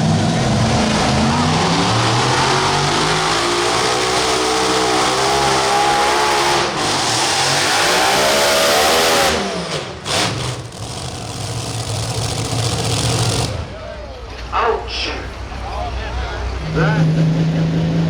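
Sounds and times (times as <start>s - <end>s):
engine at full throttle: 0.0s - 14.0s, 16.7s - 18.0s.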